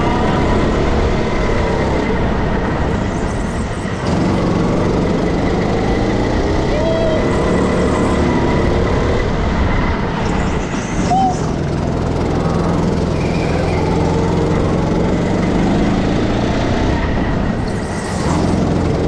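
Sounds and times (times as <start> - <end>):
go-kart motor running: 0.0 - 19.0.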